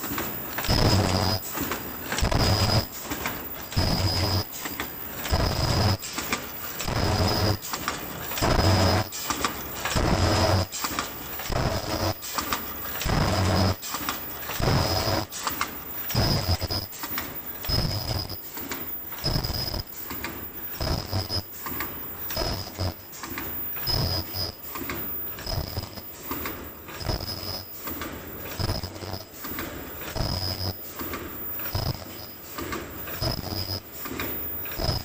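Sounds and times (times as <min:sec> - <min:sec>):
mechanical clicks: 0:00.0 - 0:35.0
welding machine low hum: 0:00.0 - 0:35.0.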